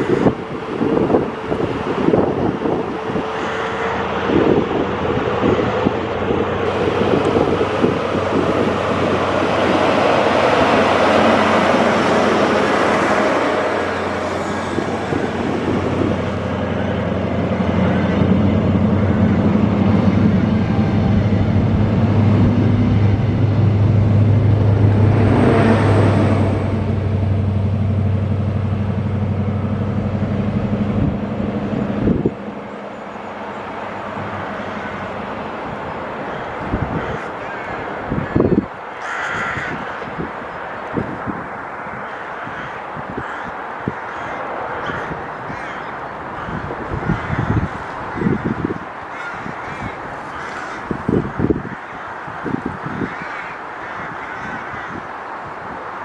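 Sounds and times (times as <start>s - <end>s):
diesel train engines running: 0.0s - 56.0s.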